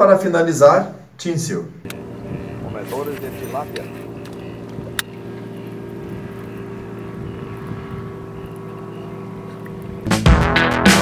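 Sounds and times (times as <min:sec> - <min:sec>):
boat motor running: 0:01.3 - 0:11.0.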